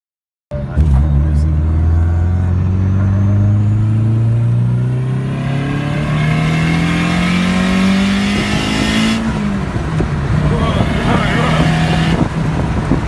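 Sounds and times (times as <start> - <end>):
car engine accelerating hard: 0.6 - 13.0.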